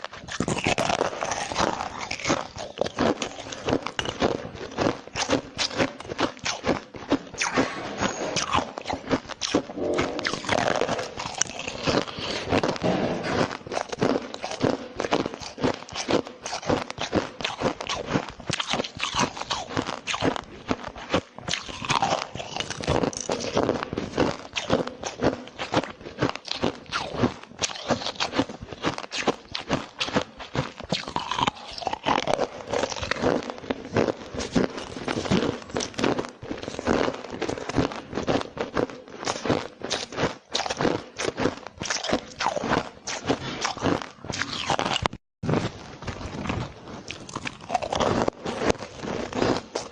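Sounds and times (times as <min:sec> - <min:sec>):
ice being chewed: 0:00.0 - 0:49.9.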